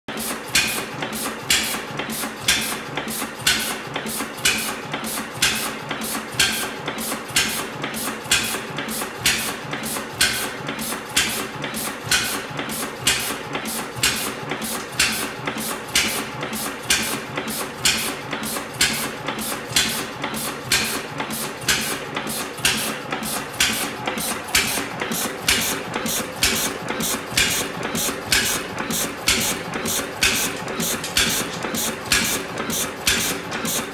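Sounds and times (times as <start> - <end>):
gas engine running: 0.1 - 33.9
valve gear clacking: 0.2 - 33.9.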